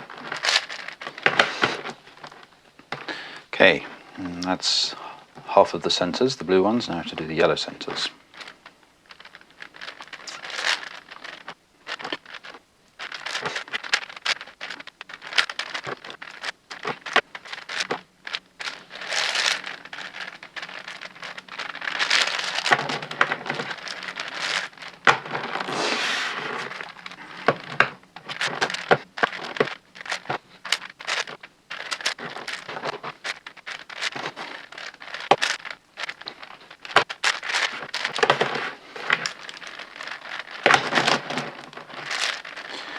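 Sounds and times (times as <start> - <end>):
puzzle cube clicking and sliding: 0.0 - 42.9.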